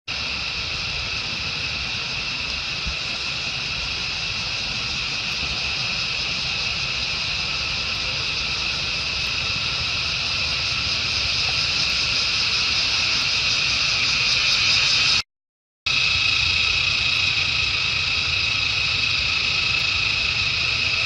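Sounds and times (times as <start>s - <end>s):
insect chorus drone: 0.1s - 15.2s, 15.9s - 21.0s.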